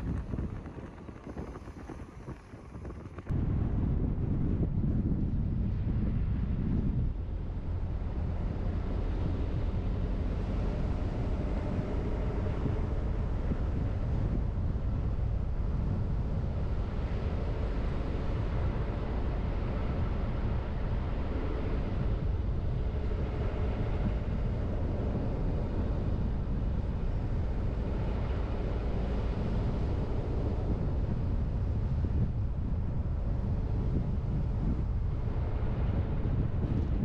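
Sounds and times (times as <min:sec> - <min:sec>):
tyres rumbling on road: 0:00.0 - 0:37.0.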